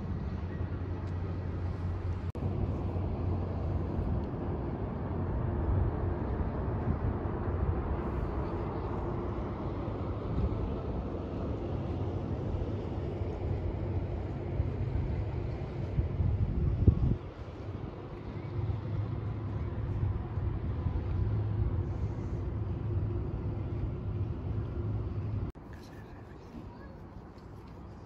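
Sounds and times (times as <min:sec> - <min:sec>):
low engine hum: 0:00.0 - 0:28.0
outdoor background noise: 0:00.0 - 0:28.0.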